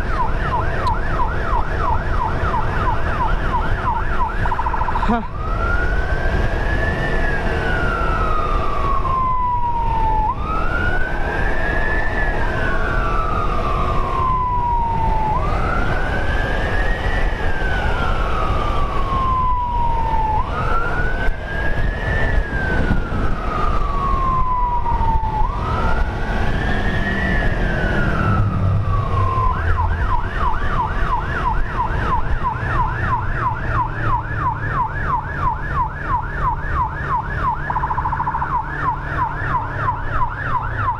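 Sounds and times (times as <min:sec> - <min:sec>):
emergency siren wailing: 0:00.0 - 0:40.9
wind: 0:00.0 - 0:40.9.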